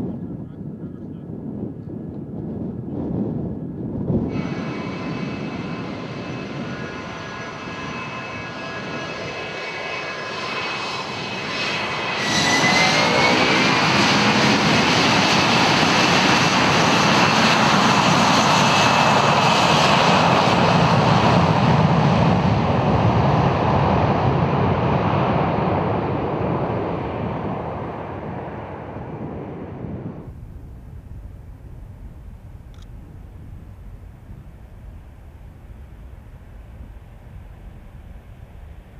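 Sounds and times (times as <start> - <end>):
jet engines whining: 4.2 - 38.9.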